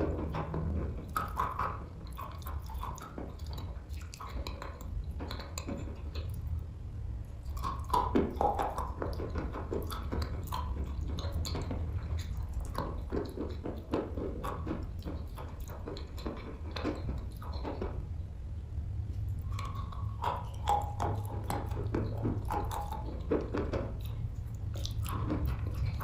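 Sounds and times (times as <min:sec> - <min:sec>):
chewing and crunching chalk: 0:00.0 - 0:18.2, 0:19.0 - 0:26.0
steady low hum: 0:00.0 - 0:26.0.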